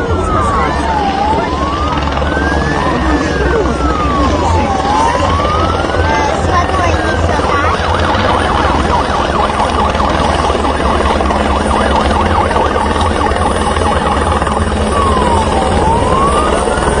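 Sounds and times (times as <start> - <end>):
low engine rumble: 0.0 - 17.0
wailing siren tones: 0.0 - 17.0.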